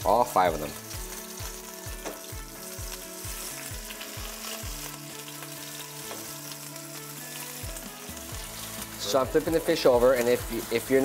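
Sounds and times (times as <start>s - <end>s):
background music with steady beat: 0.0s - 11.0s
fish sizzling in frying pan: 0.0s - 11.0s.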